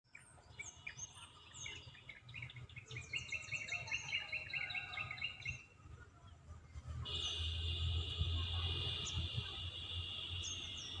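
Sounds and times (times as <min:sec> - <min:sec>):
birds chirping and singing: 0:00.1 - 0:07.7, 0:08.5 - 0:11.0.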